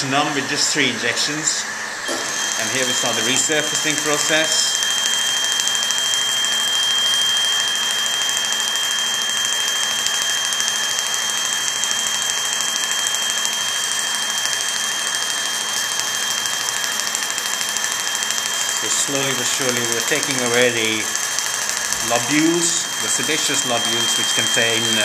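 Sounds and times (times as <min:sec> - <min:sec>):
constant high tone: 0:02.1 - 0:25.0.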